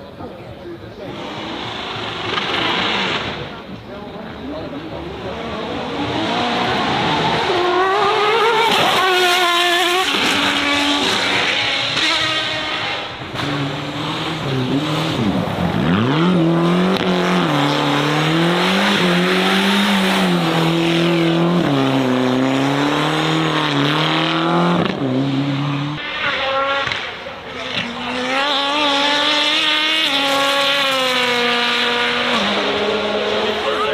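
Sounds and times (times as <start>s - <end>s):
car engine revving: 1.0s - 33.9s.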